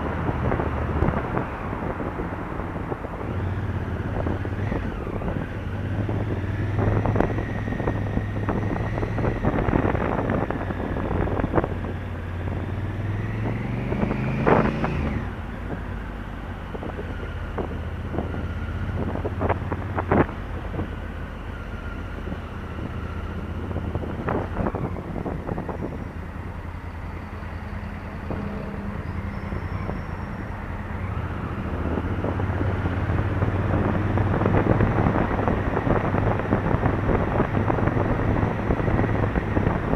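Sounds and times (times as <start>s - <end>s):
wind noise on microphone: 0.0s - 16.0s, 16.6s - 21.2s, 21.8s - 39.9s.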